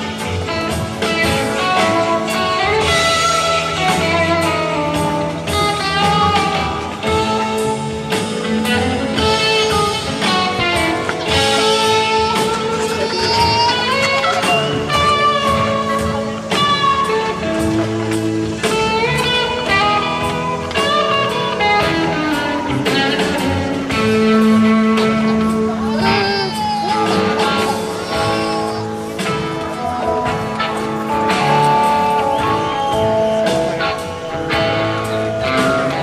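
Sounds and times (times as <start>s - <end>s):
blues guitar music: 0.0s - 36.0s.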